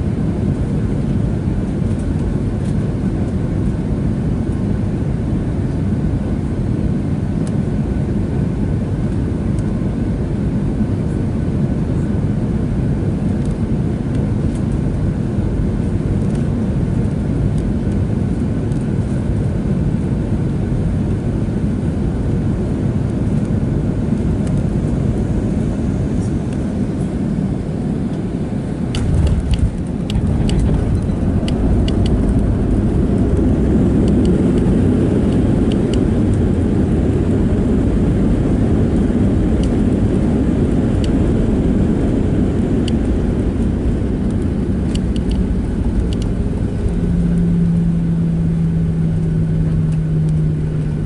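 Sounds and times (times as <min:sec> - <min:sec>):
airplane cabin engine rumble: 0:00.0 - 0:51.0
faint steady engine whine: 0:00.0 - 0:51.0.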